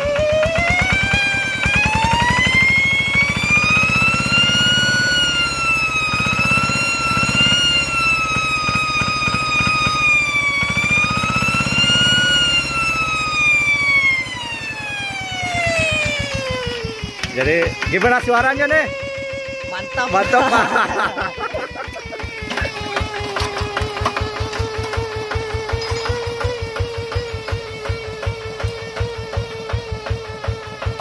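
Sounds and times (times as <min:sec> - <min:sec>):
diesel engine chugging: 0:00.0 - 0:31.0
high exhaust whistle: 0:00.0 - 0:31.0.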